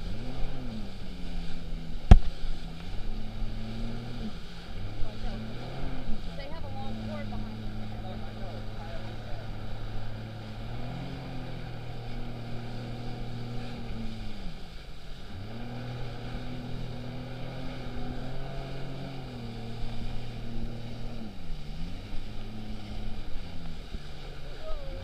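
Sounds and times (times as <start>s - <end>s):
jet ski engine running: 0.0s - 25.0s.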